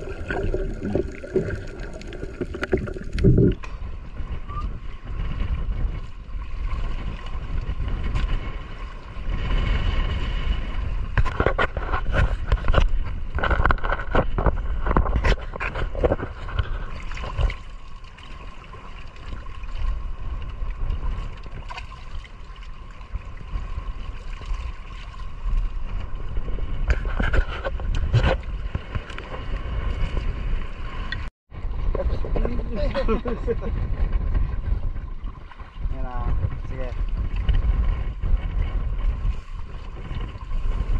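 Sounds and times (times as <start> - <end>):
water splashing and sloshing: 0.0 - 40.9
wind and sea rumble: 0.0 - 40.9.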